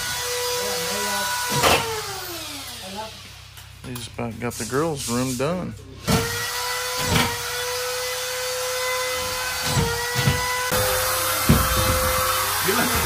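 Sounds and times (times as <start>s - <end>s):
power tool whining: 0.0s - 3.8s, 6.0s - 13.0s.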